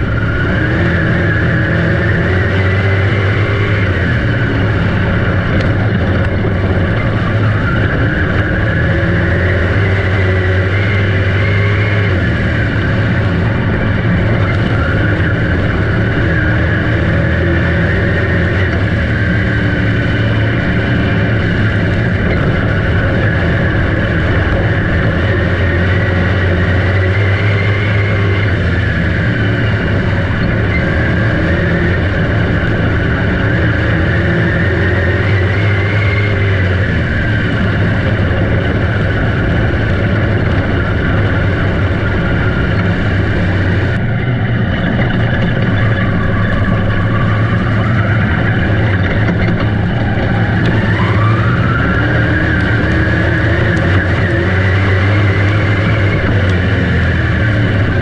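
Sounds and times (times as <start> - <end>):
race car engines running hard: 0.0 - 58.0.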